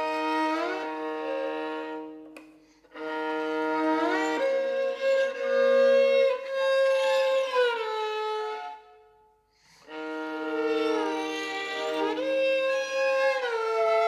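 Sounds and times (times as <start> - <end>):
bowed violin: 0.0 - 14.0.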